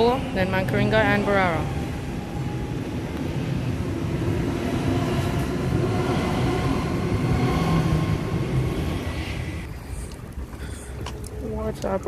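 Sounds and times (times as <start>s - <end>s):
train wheel rumble: 0.0s - 12.0s.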